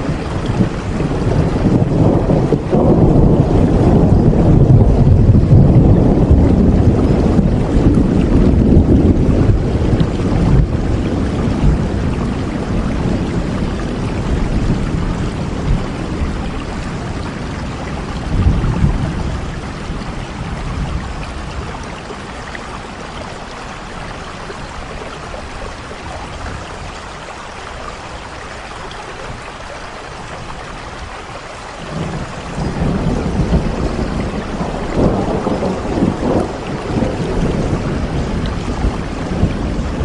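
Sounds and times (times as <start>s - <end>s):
low thunder rumbles: 0.0s - 40.0s
steady rain hissing: 0.0s - 40.0s.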